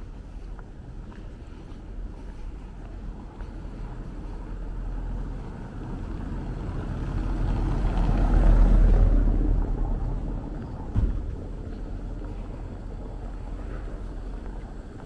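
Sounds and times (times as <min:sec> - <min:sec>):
wind rumble on microphone: 0:00.0 - 0:15.0
vehicle passing: 0:01.5 - 0:15.0.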